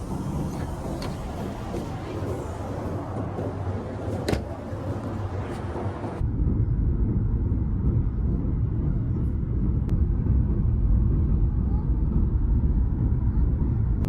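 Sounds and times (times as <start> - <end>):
aircraft engines rumbling in cabin: 0.0 - 14.0.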